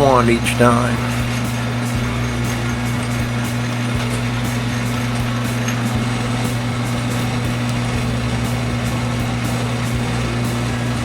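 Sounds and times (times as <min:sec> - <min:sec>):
metal lathe motor humming: 0:00.0 - 0:11.0.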